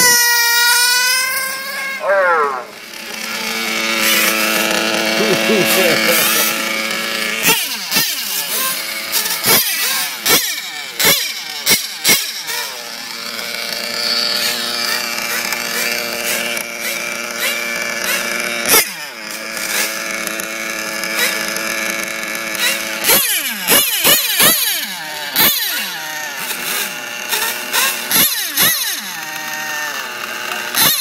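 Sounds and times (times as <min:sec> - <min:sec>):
small engine idling and revving: 0:00.0 - 0:31.0.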